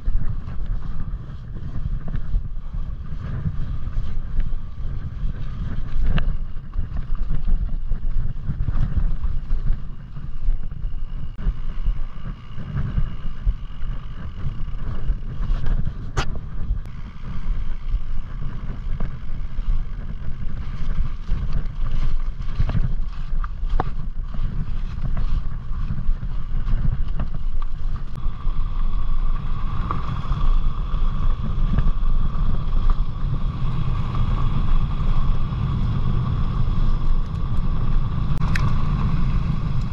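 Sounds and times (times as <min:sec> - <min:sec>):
bike rolling over rough track: 0:00.0 - 0:39.9
wind rumbling over microphone: 0:00.0 - 0:39.9.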